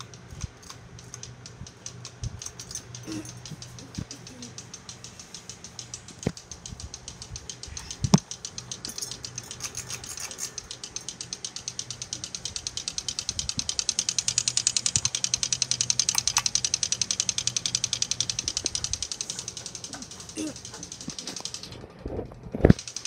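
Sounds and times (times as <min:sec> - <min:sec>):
ceiling fan motor humming: 0:00.0 - 0:23.0
fan ticking: 0:00.0 - 0:23.0.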